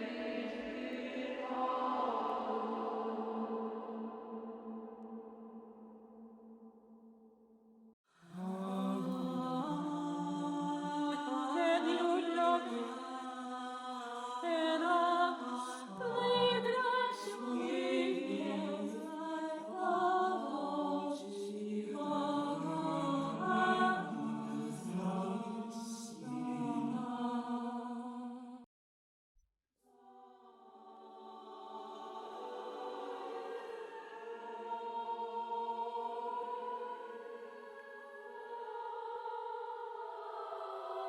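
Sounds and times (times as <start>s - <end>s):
choral a cappella voices: 0.0s - 7.0s, 8.2s - 28.7s, 29.9s - 41.0s.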